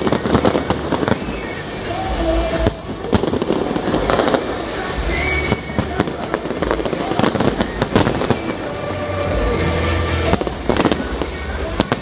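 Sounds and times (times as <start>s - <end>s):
continuous rumble: 0.0s - 12.0s
fireworks bangs and crackles: 0.0s - 12.0s
music playing: 0.0s - 12.0s.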